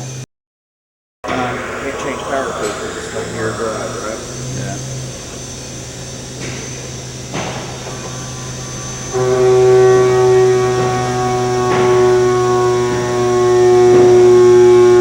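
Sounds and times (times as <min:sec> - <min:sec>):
end mill cutting metal: 0:01.2 - 0:15.0
machine spindle running: 0:01.2 - 0:15.0.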